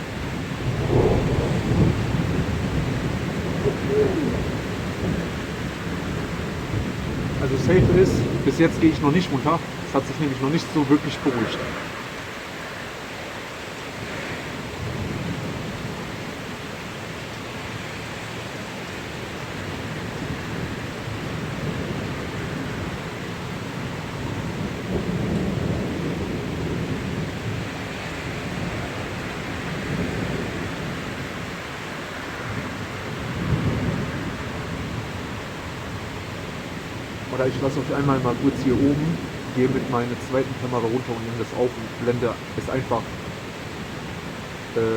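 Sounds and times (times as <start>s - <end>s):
thunder rumbling: 0.0s - 12.8s, 19.7s - 44.9s
steady rain: 0.0s - 44.9s.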